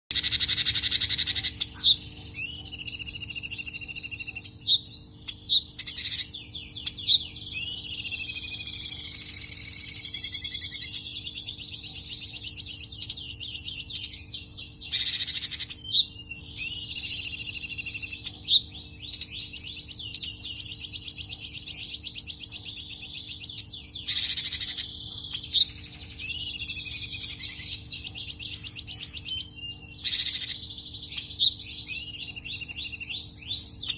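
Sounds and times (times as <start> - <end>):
faint steady hum: 0.1 - 33.9
songbird singing rapid chirps: 0.1 - 33.9.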